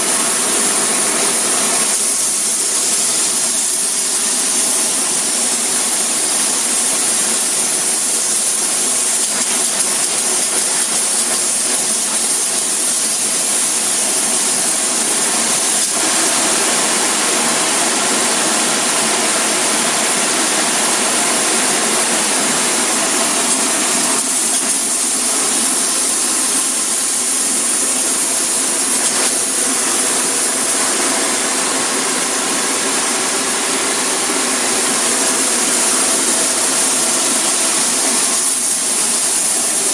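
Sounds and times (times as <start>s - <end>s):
spray foam gun hissing: 0.0s - 39.9s.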